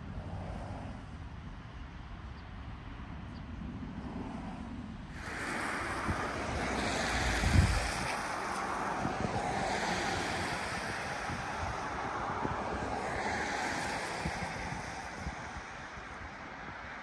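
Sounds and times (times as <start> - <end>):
low buffet of wind gust: 0.0 - 17.0
wind rushing across microphone: 0.0 - 17.0.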